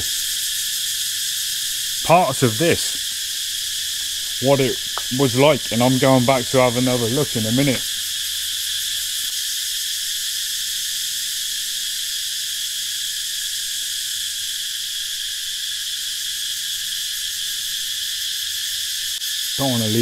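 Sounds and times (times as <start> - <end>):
insects buzzing chorus: 0.0 - 20.0.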